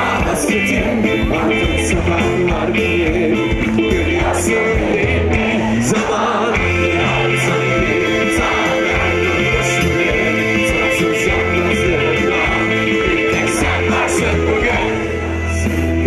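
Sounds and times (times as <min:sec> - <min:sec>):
drums: 0:00.0 - 0:16.0
electric bass: 0:00.0 - 0:16.0
electric guitar: 0:00.0 - 0:16.0
man singing lead vocal: 0:00.0 - 0:16.0.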